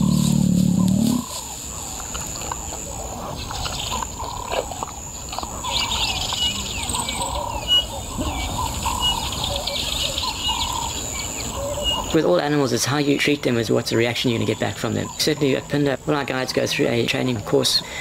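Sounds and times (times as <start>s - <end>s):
outdoor background noise: 0.0s - 18.0s
small birds chirping: 0.0s - 18.0s.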